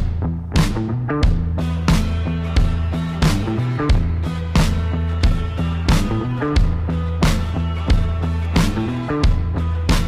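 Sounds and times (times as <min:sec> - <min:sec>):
sustained bass notes: 0:00.0 - 0:10.0.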